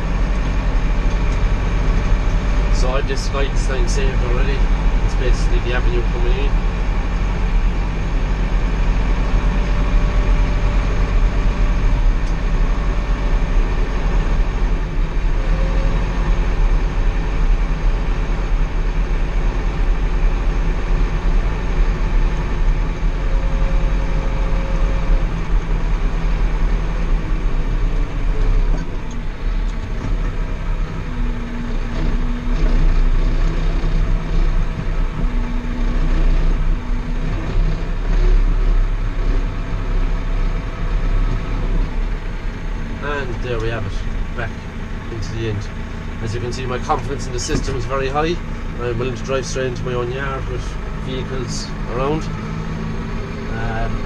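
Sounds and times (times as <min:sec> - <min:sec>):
tractor engine rumbling: 0:00.0 - 0:54.0.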